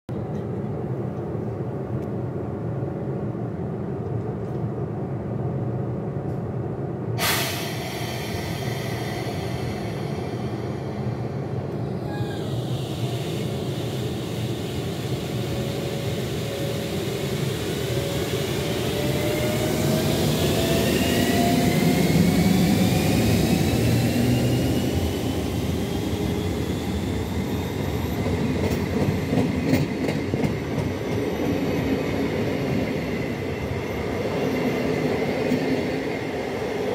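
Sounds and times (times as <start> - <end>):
rising locomotive whine: 0.1 - 36.9
train coaches rolling past: 0.1 - 36.9.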